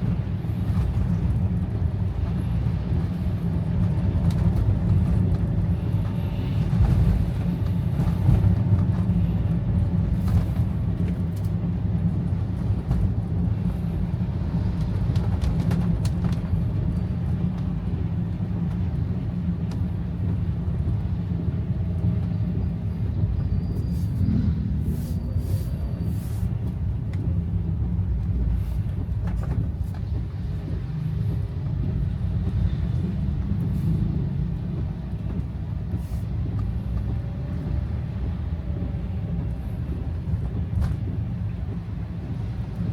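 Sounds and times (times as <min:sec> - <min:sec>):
car engine rumble: 0:00.0 - 0:42.9
tyres on wet road: 0:00.0 - 0:42.9.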